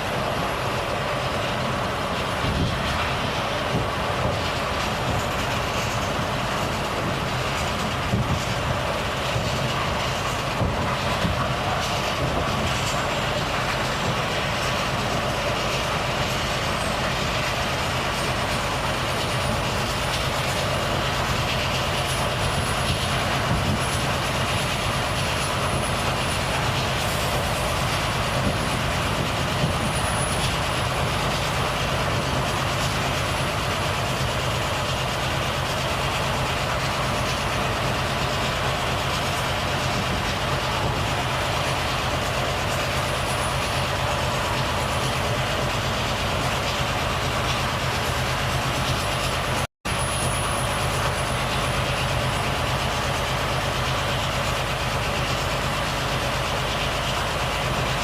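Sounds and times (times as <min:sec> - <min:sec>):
road and tyre noise: 0:00.0 - 0:58.0
truck engine running: 0:00.0 - 0:58.0.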